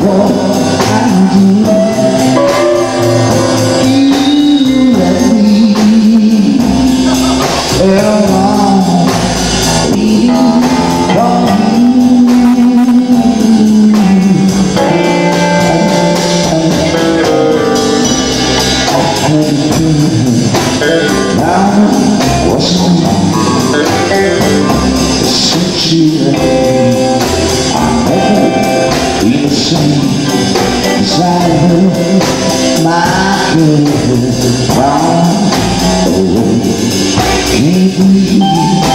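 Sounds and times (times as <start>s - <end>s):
drum kit: 0.0s - 38.9s
electric guitar: 0.0s - 38.9s
man singing: 0.0s - 38.9s.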